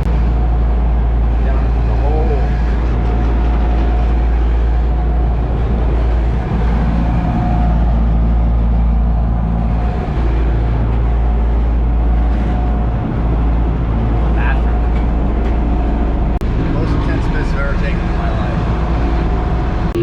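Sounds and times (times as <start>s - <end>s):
motorboat engine droning: 0.0s - 20.0s.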